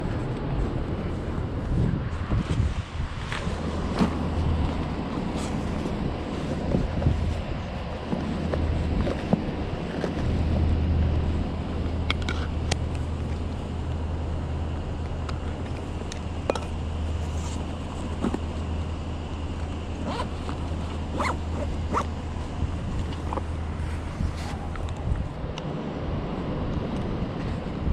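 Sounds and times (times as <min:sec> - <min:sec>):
traffic rumble: 0:00.0 - 0:27.9
wind: 0:00.0 - 0:27.9.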